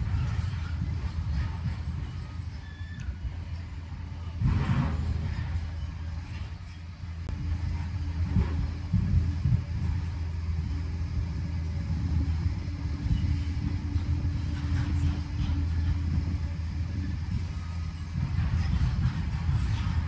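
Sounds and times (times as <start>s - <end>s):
bulldozer diesel engine humming: 0.0s - 20.0s.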